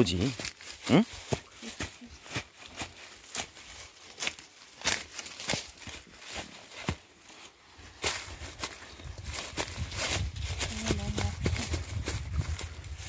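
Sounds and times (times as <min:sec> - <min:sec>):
footsteps crunching dry leaves: 0:00.0 - 0:13.0.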